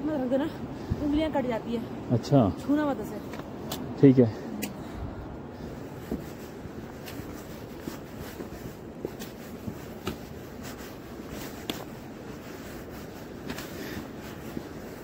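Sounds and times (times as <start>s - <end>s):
steady background hiss: 0.0s - 15.0s
footsteps on stony trail: 2.6s - 15.0s.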